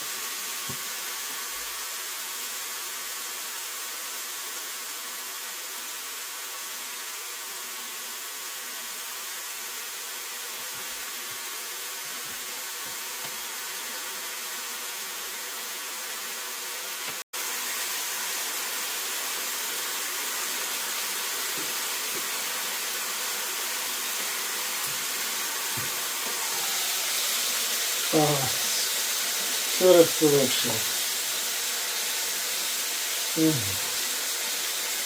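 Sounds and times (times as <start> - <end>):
chicken frying in hot oil: 0.0 - 35.0.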